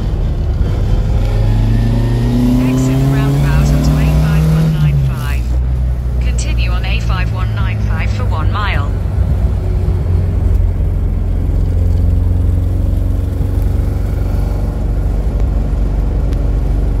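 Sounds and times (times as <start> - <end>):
car engine drone: 0.0 - 17.0
road and wind noise: 0.0 - 17.0.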